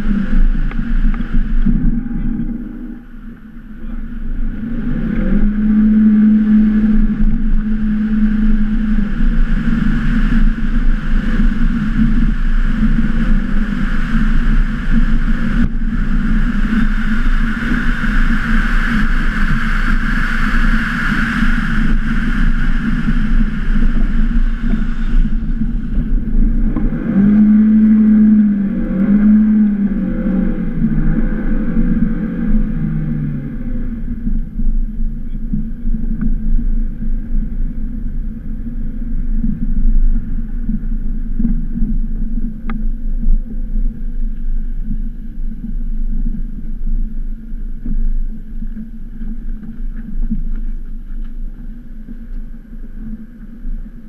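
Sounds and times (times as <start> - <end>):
car engine under load: 0.0 - 54.0
steady rushing noise: 0.0 - 54.0.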